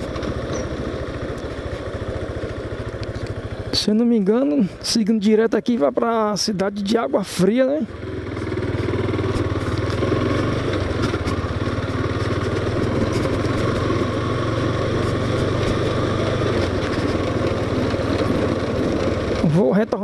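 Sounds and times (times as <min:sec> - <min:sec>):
motorcycle engine running: 0:00.0 - 0:20.0
tyres on cobblestones: 0:00.0 - 0:20.0.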